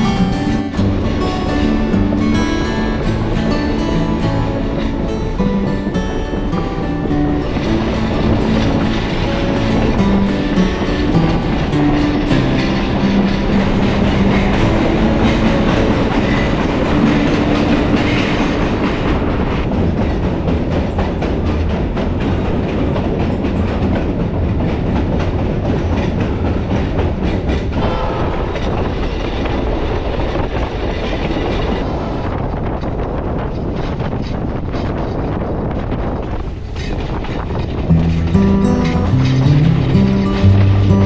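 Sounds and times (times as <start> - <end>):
train rumbling on track: 0.0 - 41.0.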